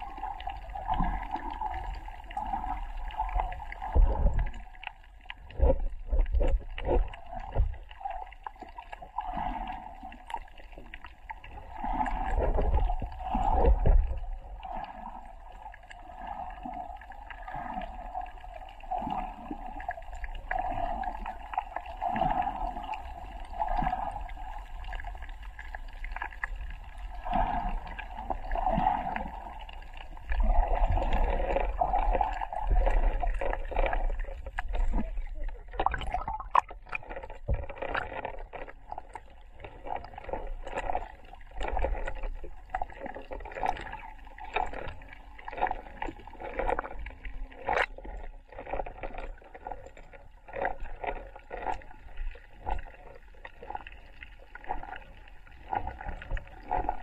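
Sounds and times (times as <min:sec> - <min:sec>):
low underwater rumbles: 0:00.0 - 0:57.0
muffled underwater water movement: 0:00.0 - 0:57.0.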